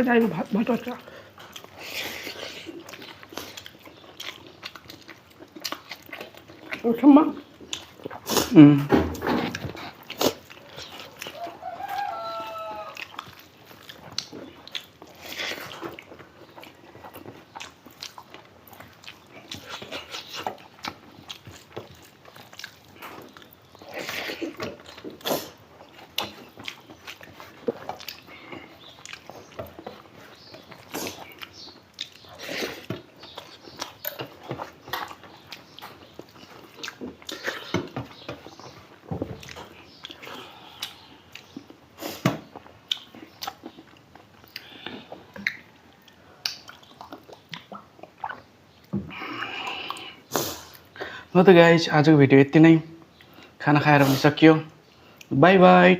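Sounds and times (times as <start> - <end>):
mouths chewing and smacking: 0.0 - 55.9.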